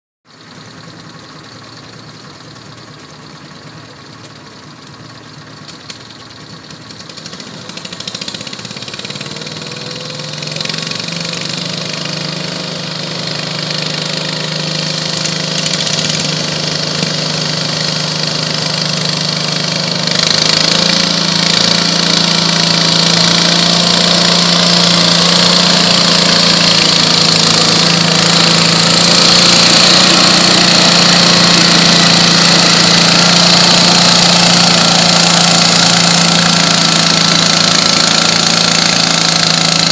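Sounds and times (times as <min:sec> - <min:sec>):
tractor engine running: 0:00.3 - 0:39.9.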